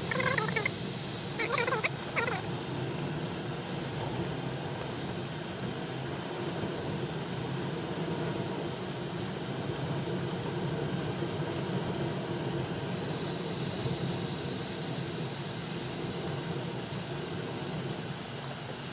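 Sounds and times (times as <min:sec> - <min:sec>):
car road and engine noise: 0:00.0 - 0:18.9.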